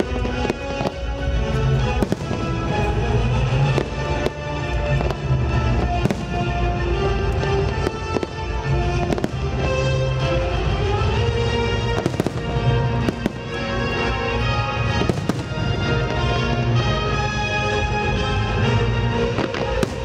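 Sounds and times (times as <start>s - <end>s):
fireworks bursting with sharp bangs: 0.0s - 20.0s
music playing: 0.0s - 20.0s.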